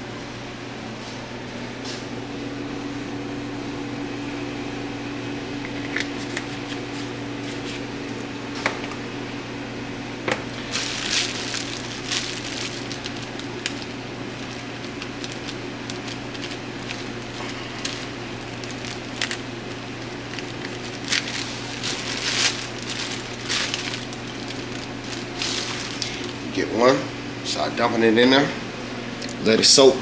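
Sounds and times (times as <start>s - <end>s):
low hum of appliance: 0.0s - 30.0s.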